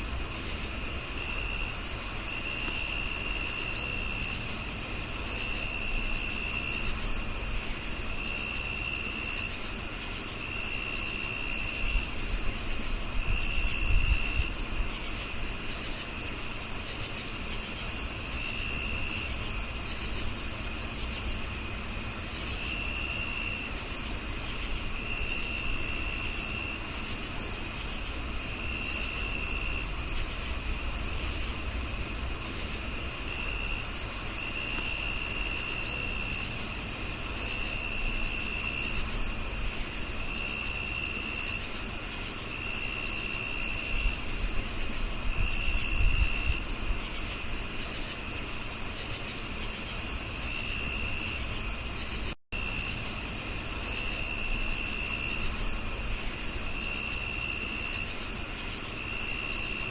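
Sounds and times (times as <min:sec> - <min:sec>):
cricket chirping: 0:00.0 - 0:59.9
crickets high trill: 0:00.0 - 0:59.9
lower cricket trill bursts: 0:00.0 - 0:59.9.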